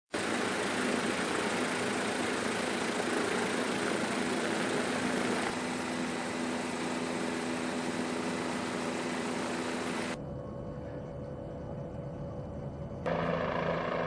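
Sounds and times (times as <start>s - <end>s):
engine drone: 0.2s - 10.9s, 13.0s - 14.0s.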